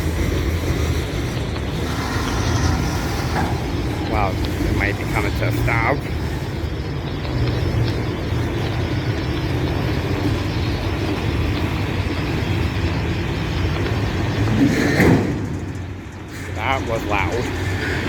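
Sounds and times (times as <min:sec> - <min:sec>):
freight train rumbling past: 0:00.0 - 0:18.0
refrigeration units humming: 0:00.0 - 0:18.0.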